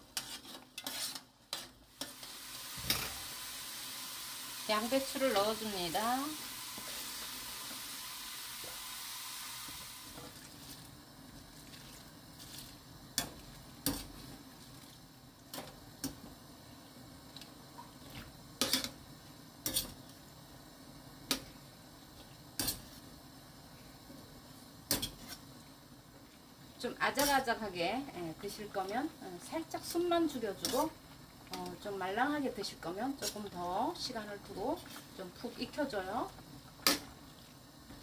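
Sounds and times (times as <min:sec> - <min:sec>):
boiling water hissing: 0:00.0 - 0:38.0.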